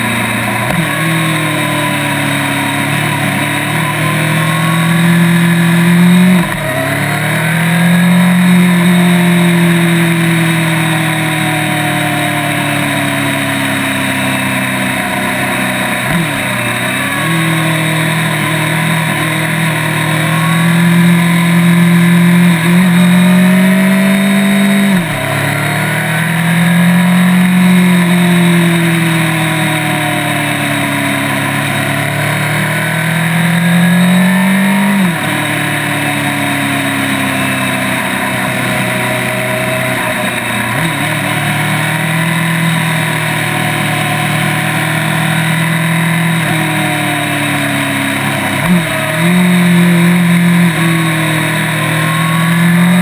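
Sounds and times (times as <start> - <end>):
motorcycle engine at speed: 0.0 - 53.0.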